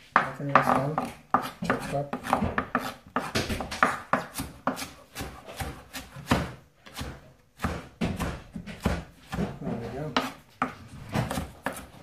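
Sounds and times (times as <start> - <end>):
knife chopping lettuce on board: 0.2 - 12.0.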